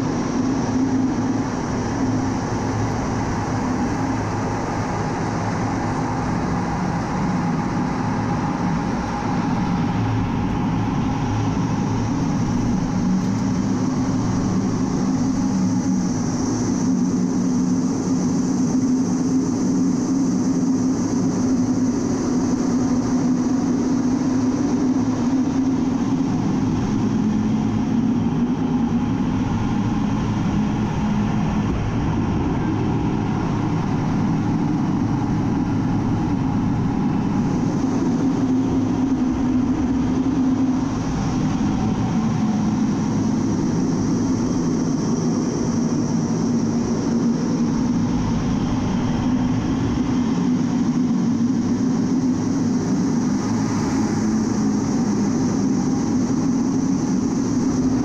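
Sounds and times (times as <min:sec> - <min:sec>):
jet engine cockpit drone: 0:00.0 - 0:58.0.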